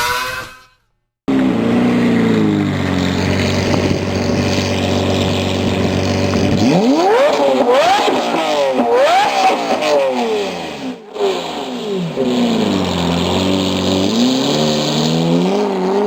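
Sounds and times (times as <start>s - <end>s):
engine revving: 1.3s - 16.0s.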